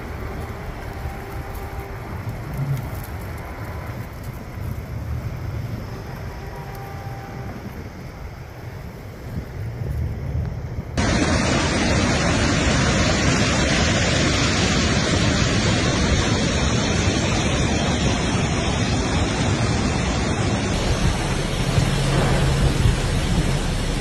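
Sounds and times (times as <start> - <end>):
water rushing: 0.0 - 4.6, 5.4 - 8.0, 11.0 - 24.0.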